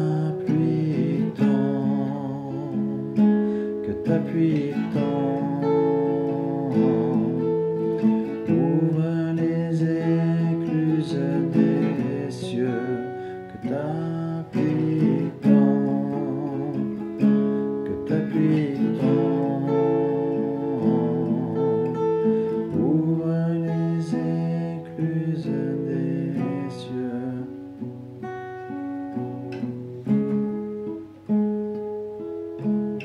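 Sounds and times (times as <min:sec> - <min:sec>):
person singing: 0:00.0 - 0:27.9
strummed acoustic guitar: 0:00.0 - 0:33.0.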